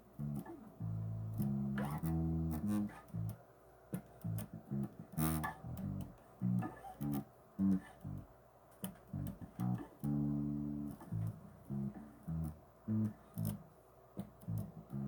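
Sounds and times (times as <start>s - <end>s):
bass guitar plucked notes: 0.0s - 3.4s, 4.0s - 8.3s, 9.0s - 13.7s, 14.3s - 15.0s.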